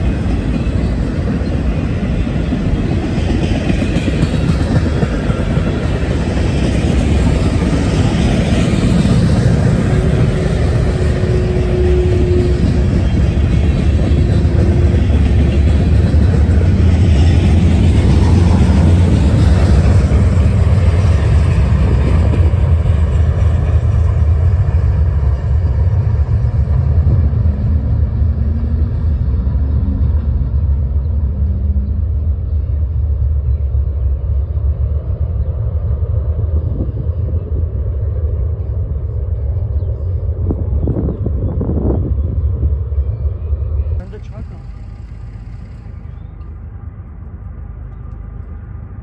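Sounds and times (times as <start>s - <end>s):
freight train rolling past: 0.0s - 49.0s
steady low rumble: 0.0s - 49.0s.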